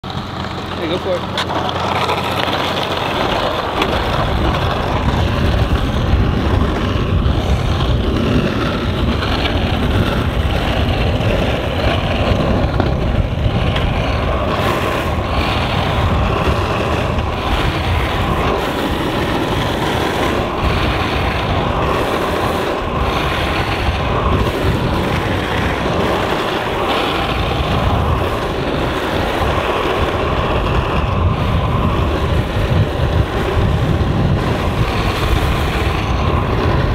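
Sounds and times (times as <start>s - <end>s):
board wheels rolling on asphalt: 0.0s - 36.9s.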